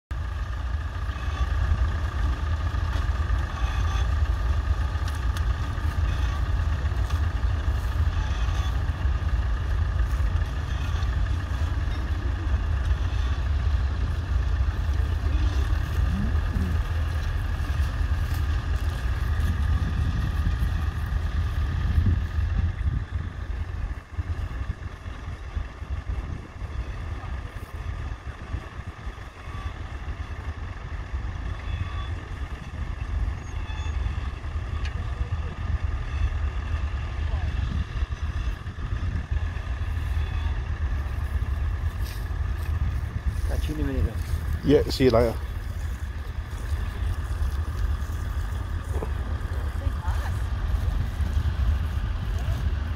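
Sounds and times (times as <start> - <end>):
tractor engine under load: 0.1 - 52.9.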